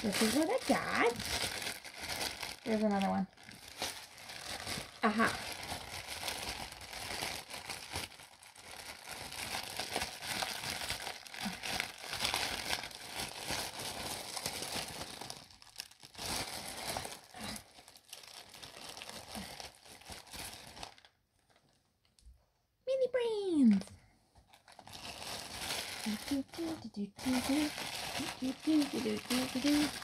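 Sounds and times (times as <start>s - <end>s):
plastic wrapping crinkling: 0.0s - 22.4s, 23.1s - 30.0s.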